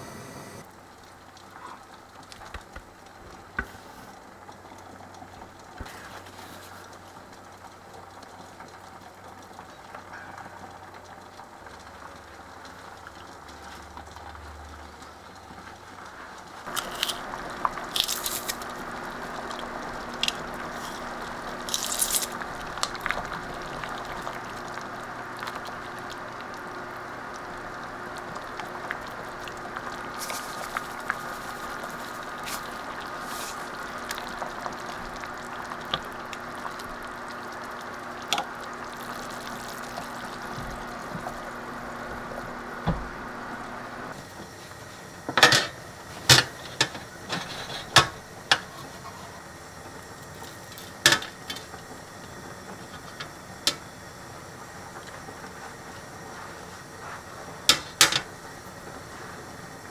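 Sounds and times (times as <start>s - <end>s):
soup boiling and bubbling: 0.0s - 59.9s.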